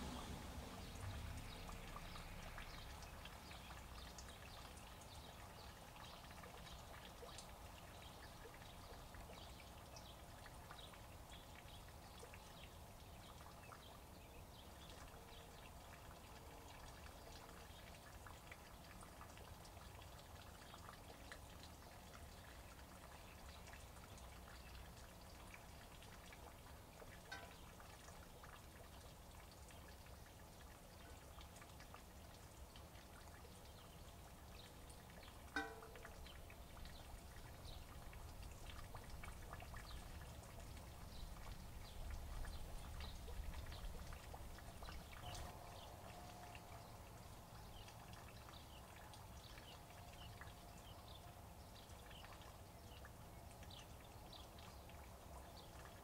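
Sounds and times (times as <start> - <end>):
low steady hum: 0.0 - 55.7
rain dripping: 0.0 - 56.0.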